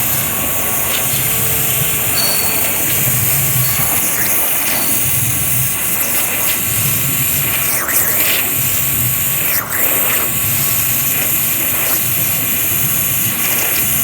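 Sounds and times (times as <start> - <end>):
waterjet hissing: 0.0 - 14.0.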